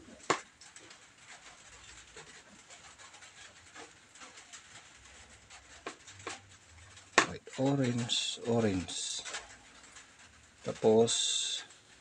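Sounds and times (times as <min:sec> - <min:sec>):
wires rustling and ticking: 0:00.0 - 0:12.0.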